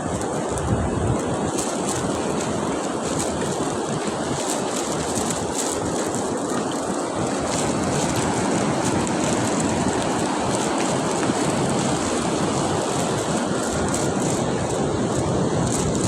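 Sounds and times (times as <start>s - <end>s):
sea surf on beach: 0.0s - 16.0s
wind noise on microphone: 0.0s - 16.0s.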